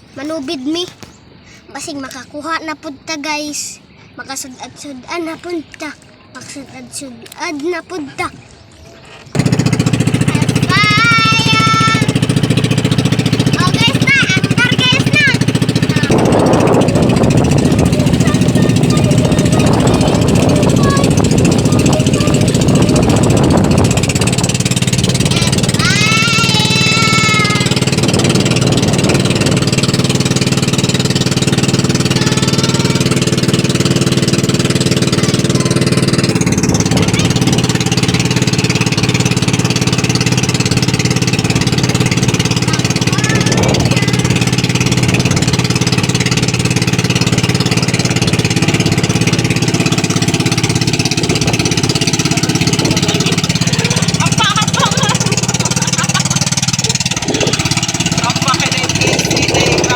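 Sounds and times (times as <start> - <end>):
boat engine running: 7.6 - 59.9.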